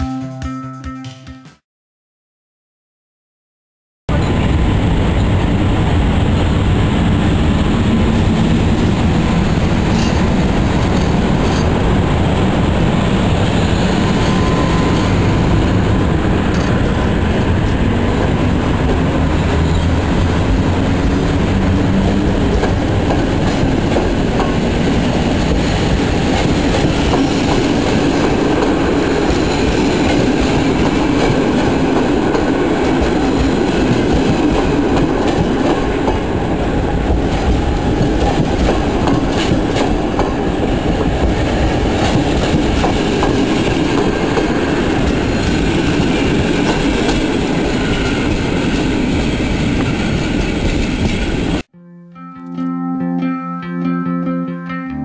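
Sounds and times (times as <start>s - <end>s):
train wheels on rails: 4.1s - 51.7s.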